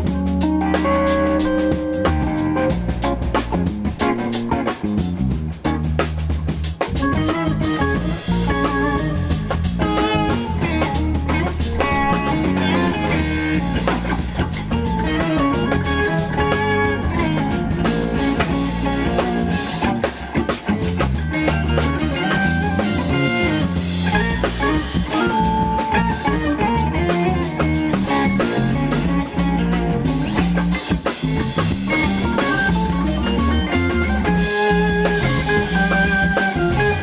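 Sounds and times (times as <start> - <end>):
electric guitar soloing: 0.0 - 5.0, 7.0 - 37.0
cymbals and drums: 0.0 - 37.0
walking bass: 0.0 - 37.0.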